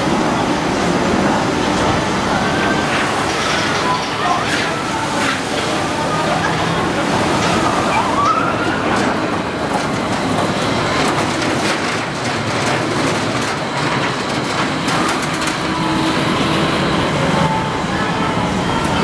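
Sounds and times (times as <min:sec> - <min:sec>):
coaster wheels rumbling and rattling: 0:00.0 - 0:19.0.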